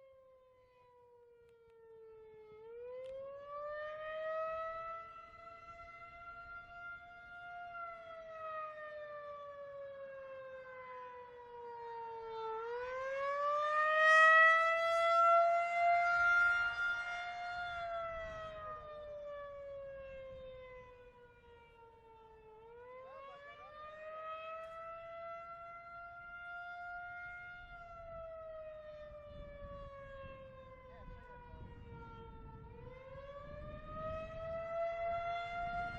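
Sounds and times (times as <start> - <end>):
tornado siren wailing: 0.0 - 35.9.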